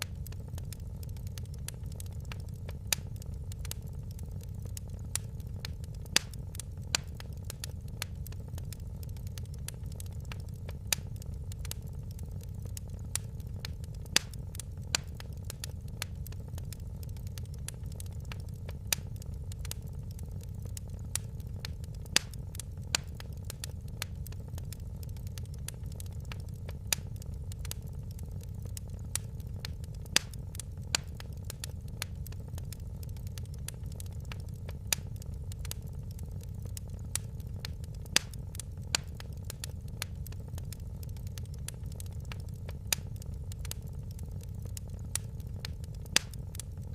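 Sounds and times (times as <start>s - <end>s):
low rumble of flames: 0.0s - 46.9s
sharp pops of burning wood: 0.0s - 46.9s
wood fire crackling: 0.0s - 46.9s.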